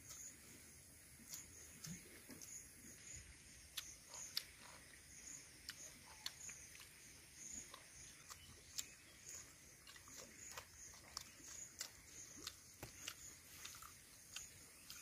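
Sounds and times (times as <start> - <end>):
man chewing: 0.0 - 3.0, 3.7 - 15.0.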